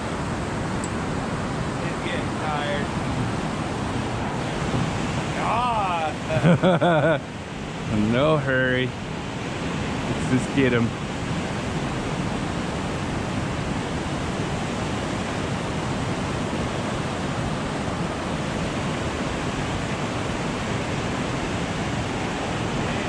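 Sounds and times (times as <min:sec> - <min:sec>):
rushing creek water: 0:00.0 - 0:23.0.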